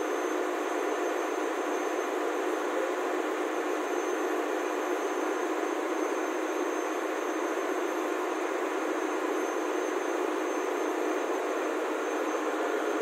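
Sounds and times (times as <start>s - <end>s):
engine room machinery drone: 0.0s - 13.0s
faint high whine: 0.0s - 13.0s.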